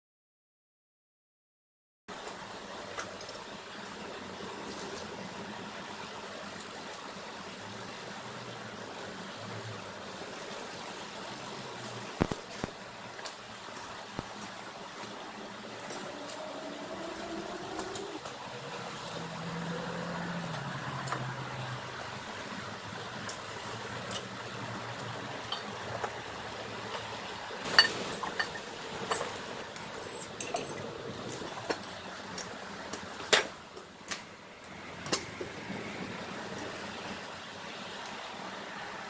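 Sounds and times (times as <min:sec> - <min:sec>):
firewood crackling: 0:02.1 - 0:38.2.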